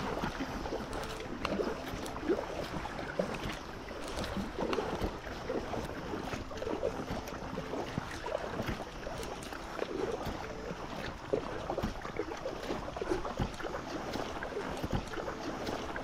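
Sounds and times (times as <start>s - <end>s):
paddle dipping through water: 0.0s - 16.0s
water splashes and drips: 0.0s - 16.0s.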